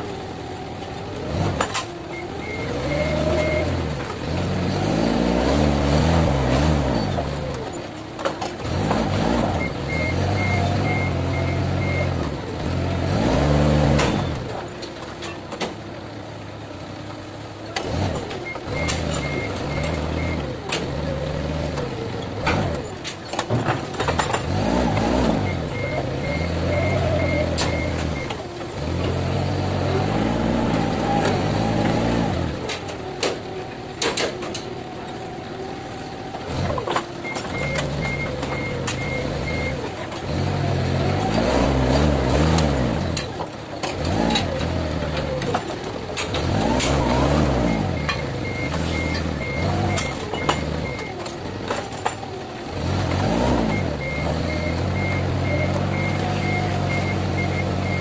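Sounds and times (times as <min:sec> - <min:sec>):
forklift engine revving: 0:00.0 - 0:58.0.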